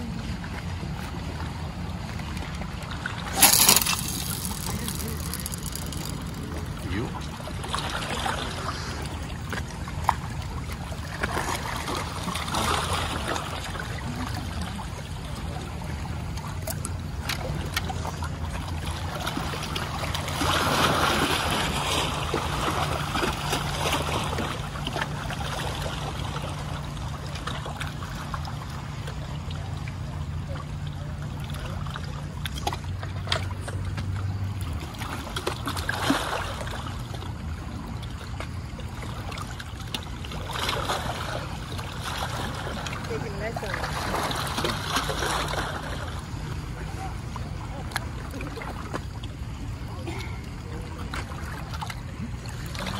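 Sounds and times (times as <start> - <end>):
motorboat engine droning: 0.0 - 52.9
water lapping: 0.0 - 52.9.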